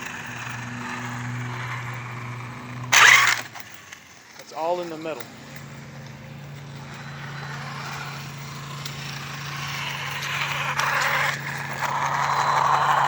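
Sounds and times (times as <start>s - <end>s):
electric drivetrain humming: 0.0s - 13.0s
rushing mechanical noise: 0.0s - 13.0s.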